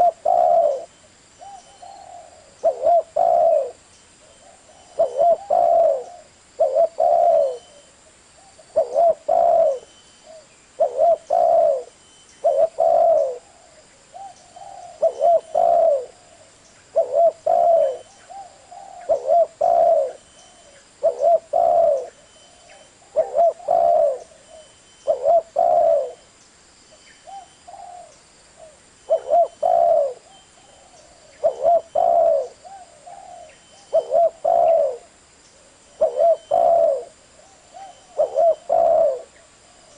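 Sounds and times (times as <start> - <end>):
dove cooing: 0.0 - 26.3, 27.2 - 39.9.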